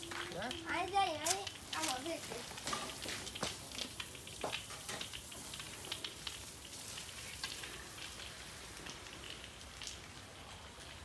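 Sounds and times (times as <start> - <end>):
faint steady hiss: 0.0 - 11.0
raindrops pattering: 0.0 - 11.0.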